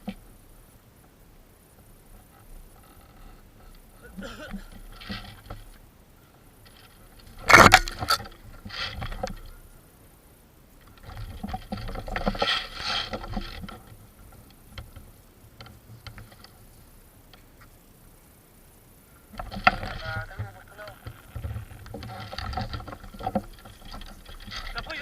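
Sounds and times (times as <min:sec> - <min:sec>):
rustling through undergrowth: 0:01.8 - 0:18.4, 0:19.0 - 0:25.0.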